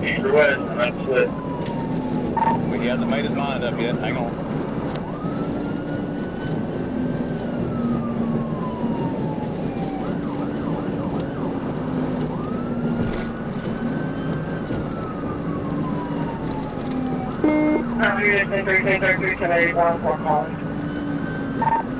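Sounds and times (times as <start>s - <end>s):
engine and road noise: 0.0s - 21.9s
police siren wailing: 0.0s - 21.9s.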